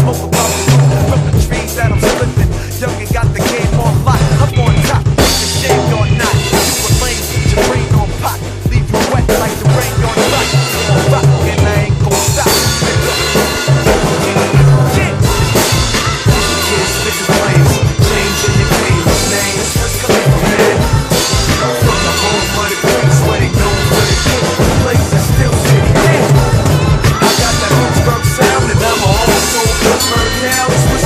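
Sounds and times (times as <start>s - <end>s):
drum kit playing: 0.0s - 31.0s
hip-hop track with bass line: 0.0s - 31.0s.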